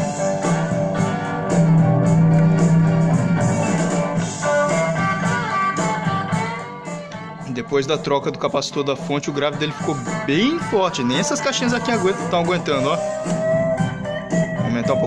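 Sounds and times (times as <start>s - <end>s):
guitar music from record player: 0.0s - 15.0s.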